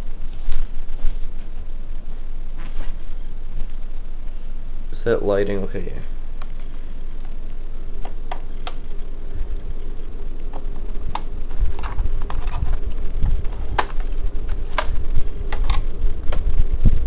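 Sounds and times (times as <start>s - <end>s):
low rumbling handling noise: 0.0s - 17.0s.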